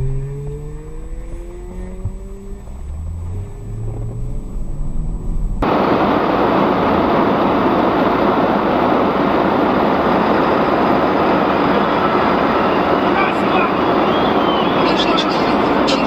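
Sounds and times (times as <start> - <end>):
rushing noise of moving vehicle: 0.0 - 16.0
vehicle engine hum: 0.0 - 16.0.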